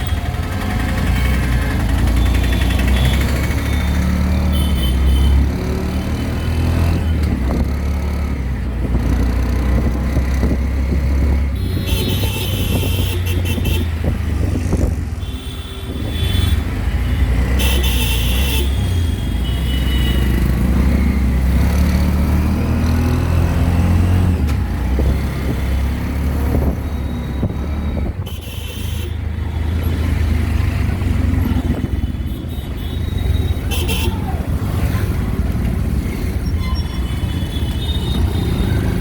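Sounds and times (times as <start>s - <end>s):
auto-rickshaw engine running: 0.0s - 39.0s.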